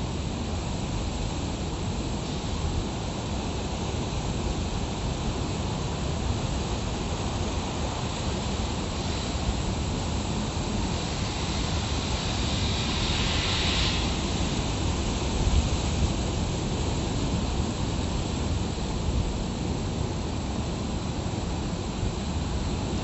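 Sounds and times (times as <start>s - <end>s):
hiss of foam: 0.2s - 23.0s.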